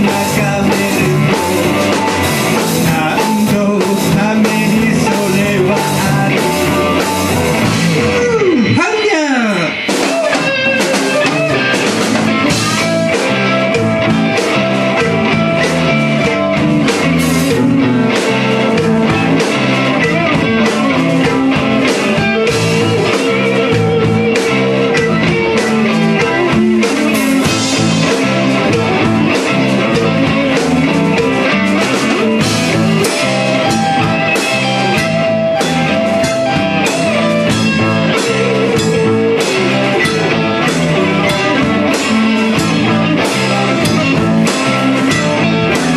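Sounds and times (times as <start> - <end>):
band music with guitar: 0.0 - 45.9
steady drum beat: 0.0 - 45.9.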